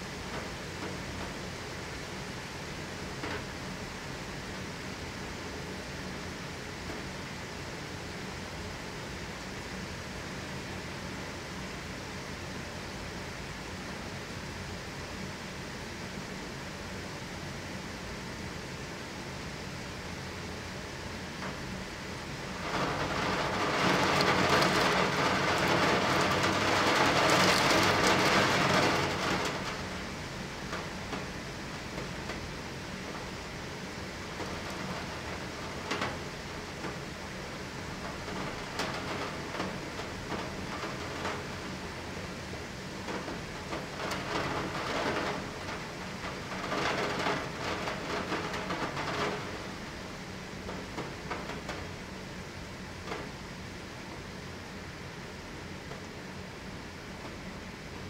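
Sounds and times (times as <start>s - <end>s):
rain through closed window: 0.0s - 58.0s.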